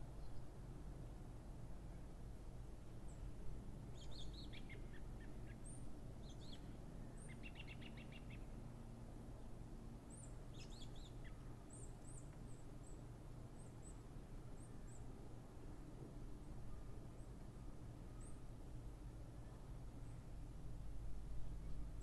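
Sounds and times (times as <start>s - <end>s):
steady low background noise: 0.0s - 22.0s.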